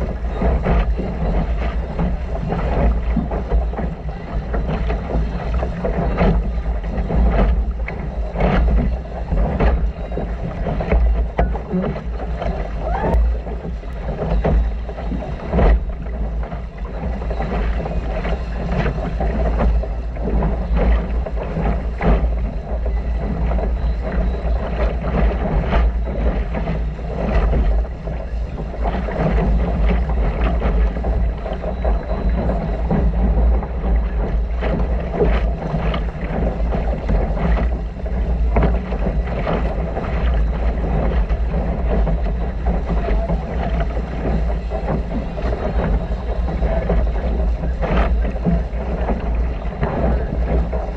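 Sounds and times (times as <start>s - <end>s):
water slapping against hull: 0.0s - 50.9s
wind buffeting microphone: 0.0s - 50.9s.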